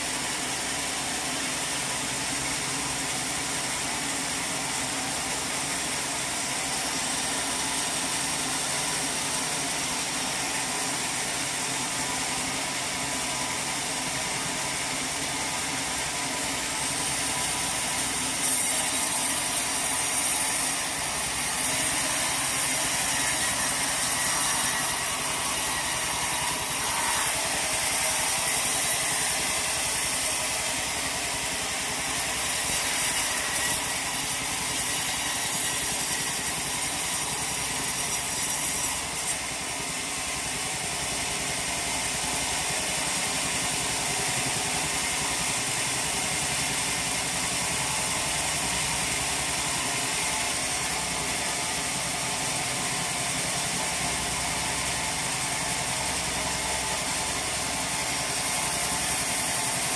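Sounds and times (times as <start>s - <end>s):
sawmill machinery clatter: 0.0s - 59.9s.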